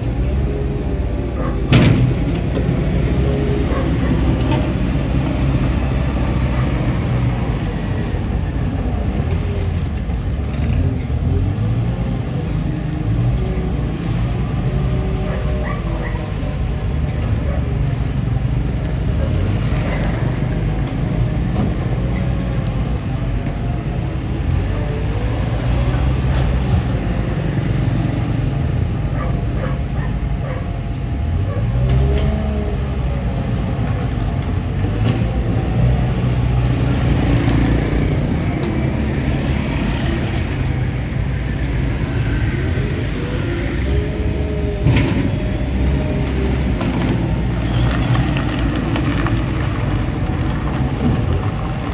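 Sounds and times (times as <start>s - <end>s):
bulldozer diesel engine rumbling: 0.0s - 51.9s.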